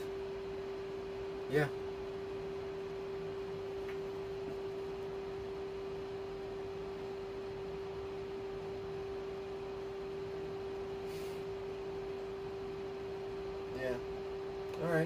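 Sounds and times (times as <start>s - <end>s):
faint low hum: 0.0s - 15.0s
steady electrical whine: 0.0s - 15.0s.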